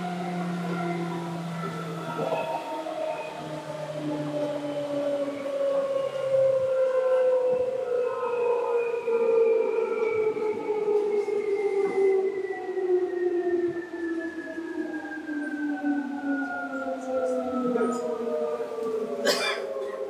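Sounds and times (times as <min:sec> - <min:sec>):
electric train motor whine: 0:00.0 - 0:19.2.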